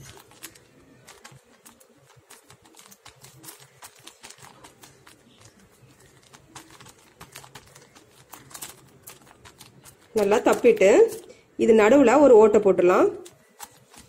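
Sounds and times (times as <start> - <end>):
plastic sheet crackling: 0.0 - 11.3, 13.0 - 14.0
fingers patting dough: 0.0 - 11.4, 13.1 - 14.0.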